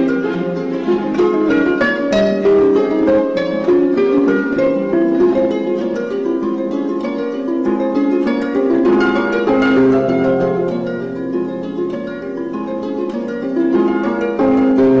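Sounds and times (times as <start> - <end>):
plucked harp-like melody: 0.0 - 15.0.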